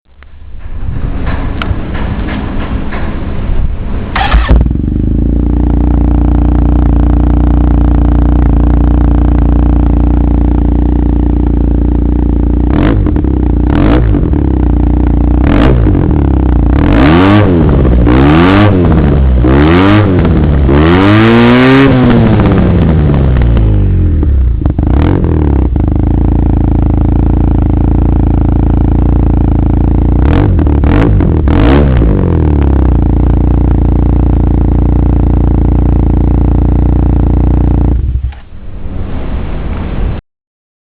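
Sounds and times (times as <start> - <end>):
scooter engine idling and revving: 1.2 - 38.6.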